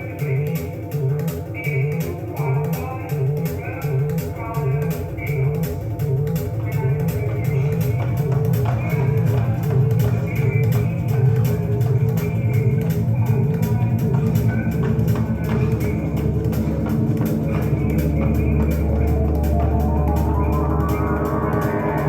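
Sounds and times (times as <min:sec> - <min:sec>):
deep bass note: 0:03.2 - 0:22.0.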